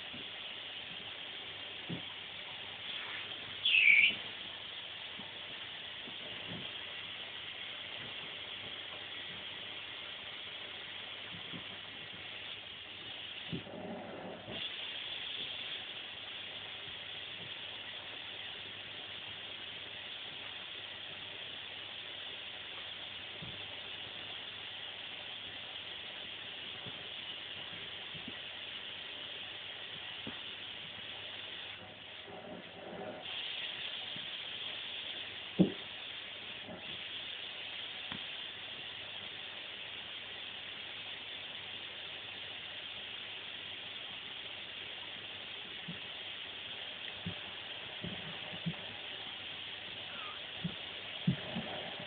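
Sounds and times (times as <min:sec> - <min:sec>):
vacuum cleaner hissing: 0:00.0 - 0:39.6, 0:43.3 - 0:52.0.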